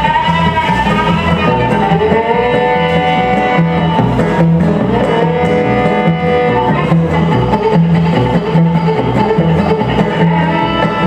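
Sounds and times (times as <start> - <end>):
electric guitar: 0.0 - 11.0
fiddle bowed notes: 0.0 - 11.0
strummed acoustic guitar: 0.0 - 11.0
upright bass: 0.0 - 11.0.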